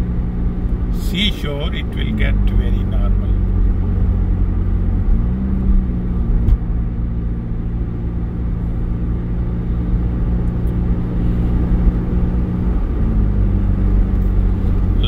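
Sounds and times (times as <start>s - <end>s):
car engine and tyre hum: 0.0s - 15.0s.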